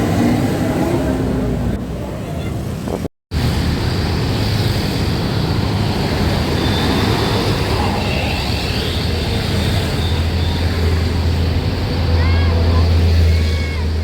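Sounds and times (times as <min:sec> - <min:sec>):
heavy vehicle engine rumble: 0:00.0 - 0:14.0
road noise: 0:00.0 - 0:14.0.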